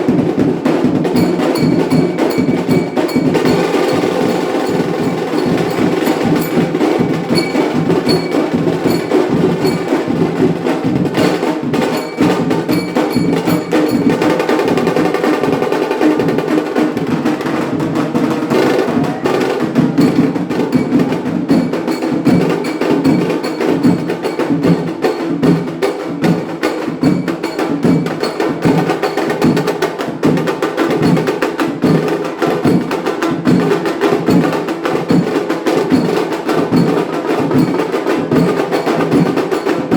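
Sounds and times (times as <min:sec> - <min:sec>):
drums beating steady rhythm: 0:00.0 - 0:39.9
wedding band playing: 0:00.0 - 0:39.9.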